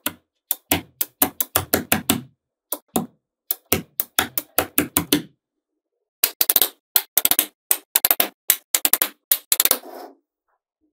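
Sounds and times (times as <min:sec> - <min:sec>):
magnetic balls clicking on tabletop: 0:00.0 - 0:05.3, 0:06.2 - 0:09.8.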